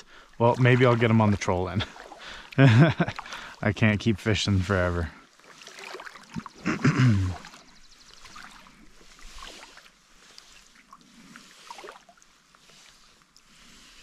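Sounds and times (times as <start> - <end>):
water dripping and splashing: 0.0 - 3.6, 4.6 - 6.7, 7.3 - 13.5
paddle strokes in water: 0.0 - 6.7, 7.3 - 14.0.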